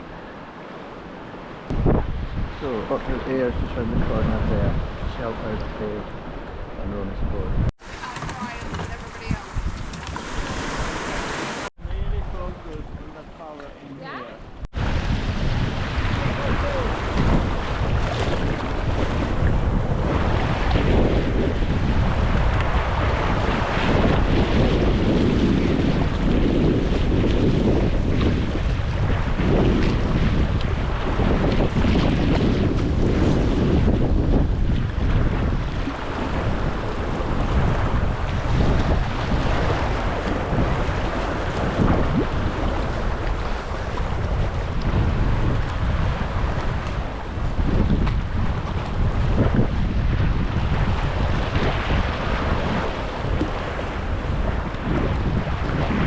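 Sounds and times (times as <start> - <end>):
choppy sea water washing: 0.0 - 56.0
waves splashing around kayak: 0.0 - 56.0
wind buffeting microphone: 1.4 - 13.3, 14.4 - 56.0.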